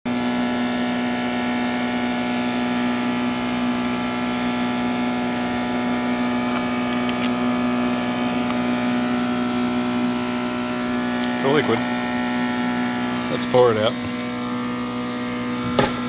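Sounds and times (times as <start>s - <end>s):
cooling fans whirring: 0.1s - 16.0s
induction furnace electrical hum: 0.1s - 16.0s.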